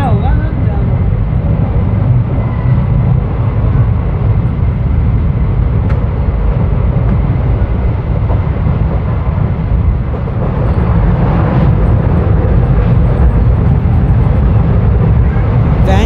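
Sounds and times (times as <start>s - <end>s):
train wheels rumbling on track: 0.0s - 16.0s
wind buffeting microphone: 0.0s - 16.0s.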